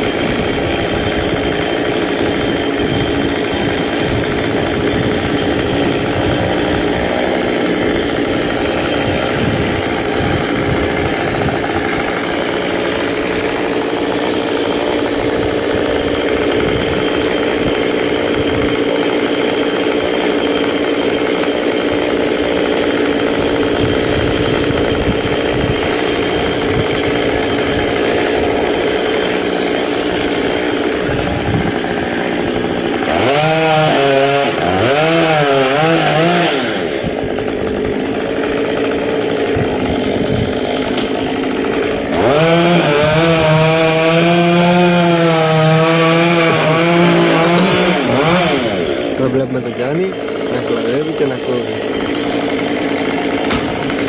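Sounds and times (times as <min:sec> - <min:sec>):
chainsaw engine running: 0:00.0 - 0:54.0.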